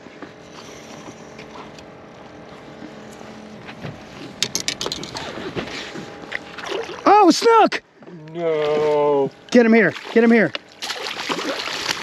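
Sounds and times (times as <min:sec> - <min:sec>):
faint hum: 0:00.0 - 0:12.0
wind: 0:00.0 - 0:12.0.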